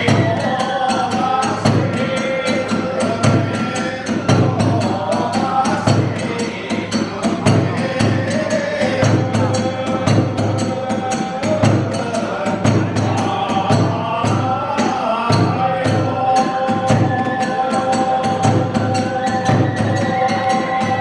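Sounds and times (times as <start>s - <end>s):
drums and hand cymbals: 0.0s - 21.0s.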